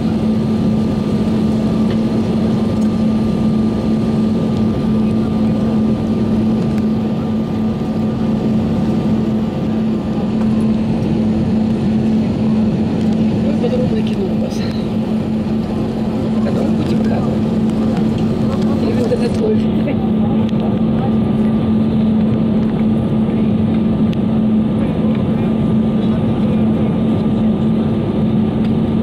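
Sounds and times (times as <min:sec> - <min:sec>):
aircraft cabin hum and hiss: 0:00.0 - 0:29.0.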